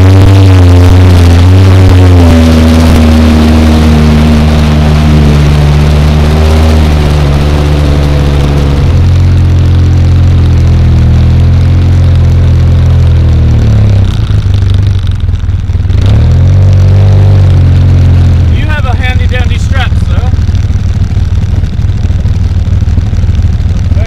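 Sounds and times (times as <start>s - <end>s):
engine running and sputtering: 0.0s - 24.0s.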